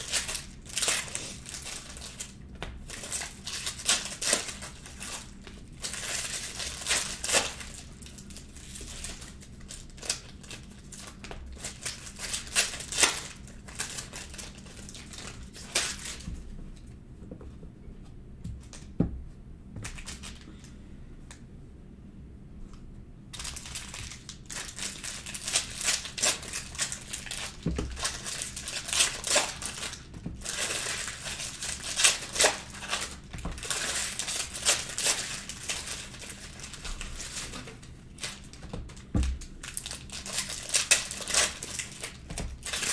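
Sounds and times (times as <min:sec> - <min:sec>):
foil packs crinkling and tearing: 0:00.0 - 0:16.3, 0:23.3 - 0:42.9.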